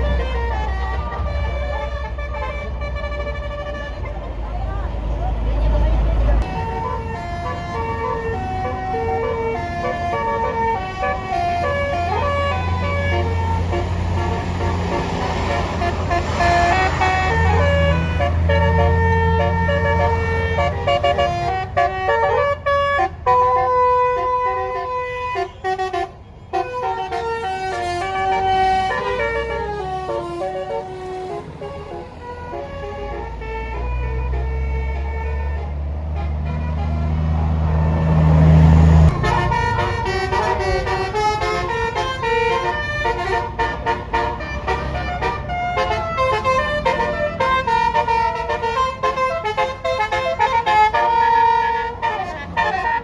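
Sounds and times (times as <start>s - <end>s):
bus engine rumble: 0.0s - 53.0s
musical air horn tune: 6.4s - 53.0s.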